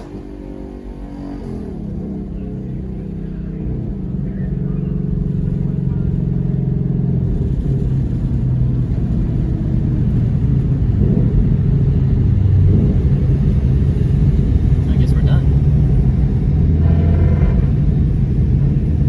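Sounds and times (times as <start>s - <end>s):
car engine droning and rumbling: 0.0s - 19.0s.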